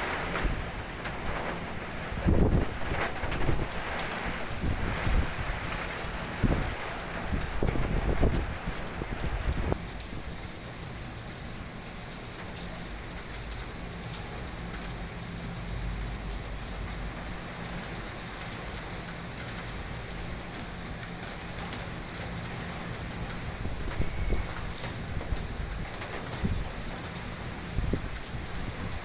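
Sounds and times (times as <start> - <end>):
heavy rain hitting surfaces: 0.0 - 29.0.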